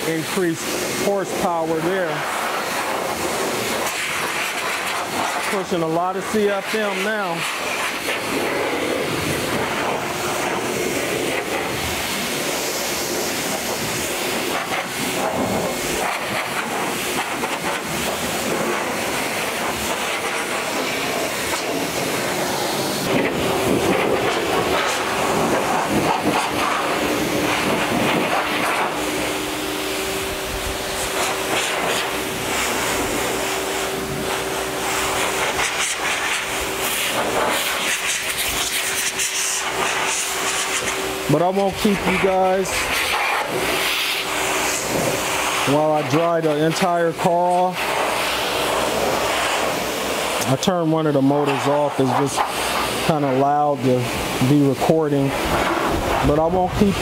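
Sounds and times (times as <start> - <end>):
motor hum: 0.0 - 50.6
car dryer air rushing: 0.0 - 57.0.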